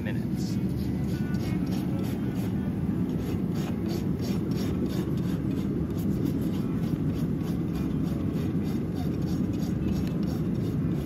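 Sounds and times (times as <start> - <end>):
steady low rumble: 0.0 - 11.0
rasp scraping back and forth: 0.8 - 11.0.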